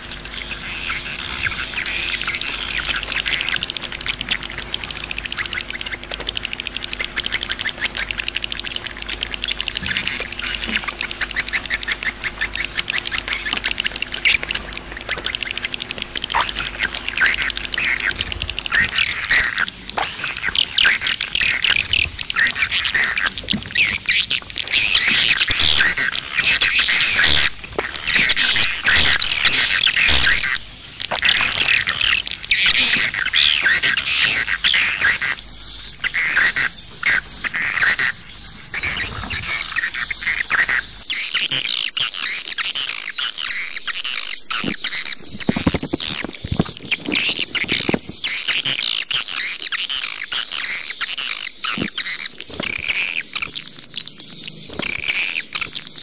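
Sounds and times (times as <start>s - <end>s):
swiftlets twittering: 0.0s - 56.0s.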